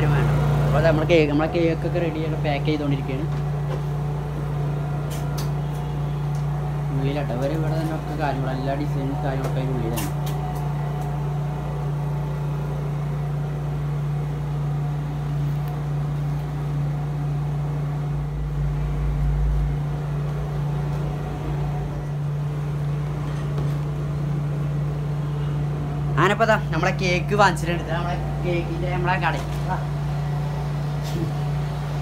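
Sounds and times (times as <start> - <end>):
generator humming: 0.0 - 32.0.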